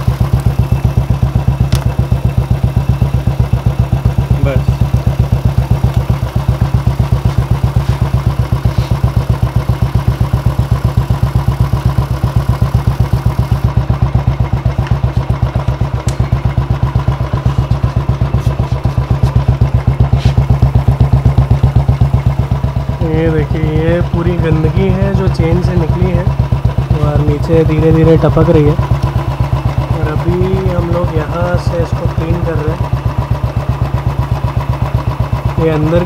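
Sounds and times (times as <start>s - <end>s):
motorcycle engine idling: 0.0s - 36.0s.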